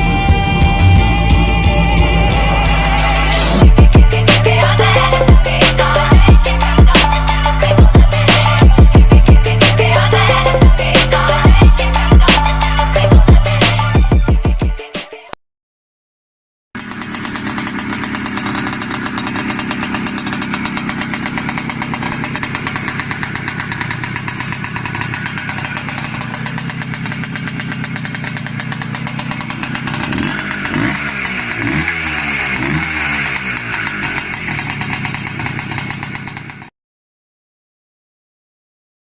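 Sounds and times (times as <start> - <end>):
motorcycle engine idling and revving: 0.0 - 14.8, 16.8 - 36.7.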